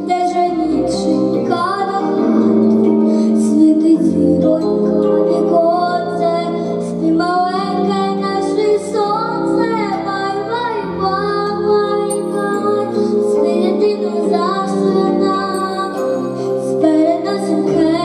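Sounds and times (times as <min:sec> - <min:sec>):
girl singing a lullaby: 0:00.0 - 0:18.0
soft instrumental accompaniment: 0:00.0 - 0:18.0.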